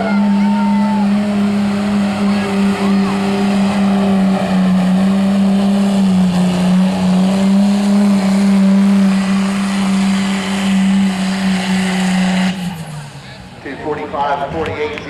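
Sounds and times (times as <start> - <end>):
engine running at high pitch: 0.0 - 13.8.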